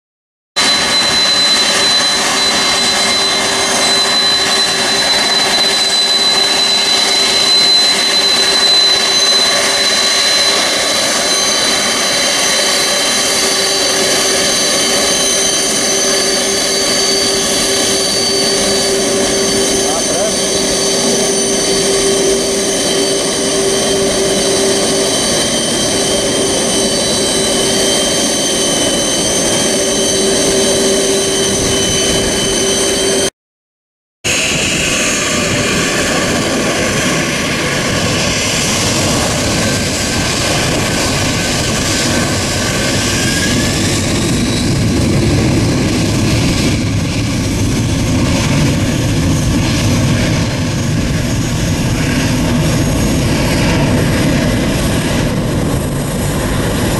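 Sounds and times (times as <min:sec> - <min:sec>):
jet engine whine and roar: 0:00.6 - 0:33.3, 0:34.3 - 0:56.9
jet takeoff rumble: 0:00.6 - 0:33.3, 0:34.3 - 0:56.9.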